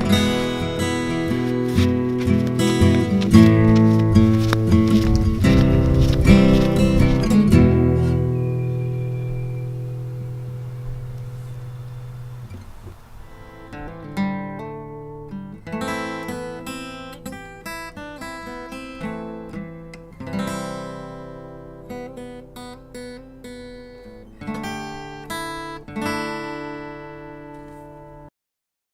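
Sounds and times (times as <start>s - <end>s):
acoustic guitar: 0.0s - 28.3s.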